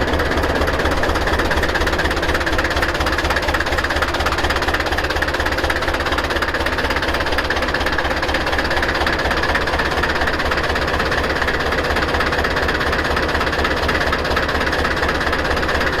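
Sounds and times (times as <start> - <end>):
diesel engine clattering: 0.0 - 16.0.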